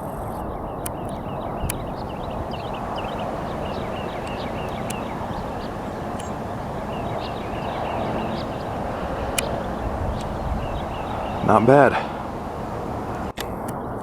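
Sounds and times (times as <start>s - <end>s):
steady background rumble: 0.0s - 13.9s
small birds chirping: 0.0s - 14.0s.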